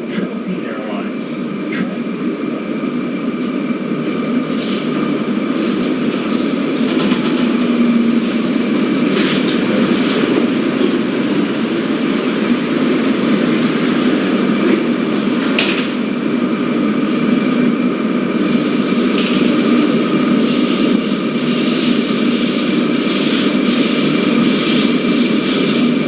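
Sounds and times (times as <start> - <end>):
airliner cabin drone: 0.0 - 26.0.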